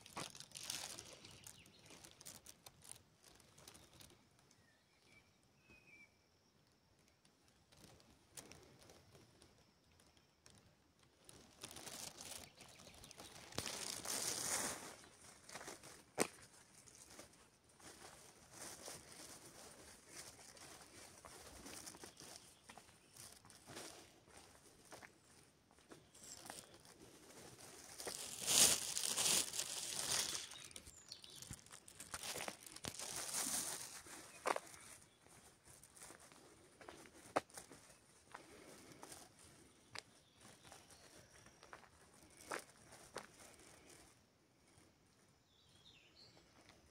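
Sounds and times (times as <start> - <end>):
rustling and crinkling: 0.0 - 4.8, 7.2 - 44.8.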